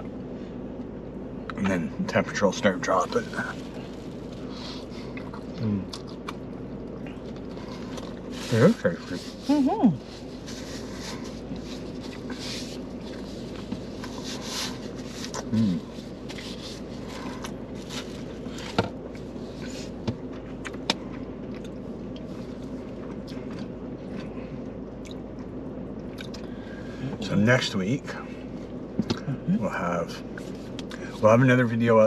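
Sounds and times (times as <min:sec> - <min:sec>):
car interior hum: 0:00.0 - 0:32.0.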